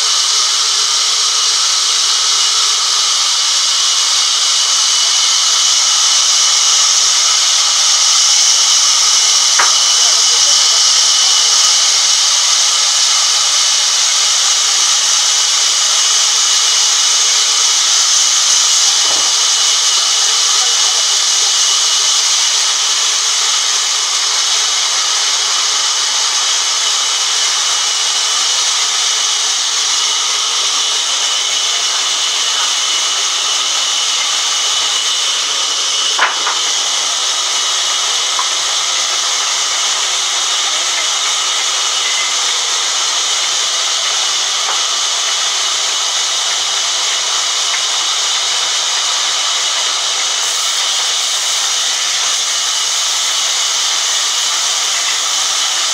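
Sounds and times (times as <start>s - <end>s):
band saw blade cutting wood: 0.0s - 47.9s
high whine of running saw: 0.0s - 55.9s.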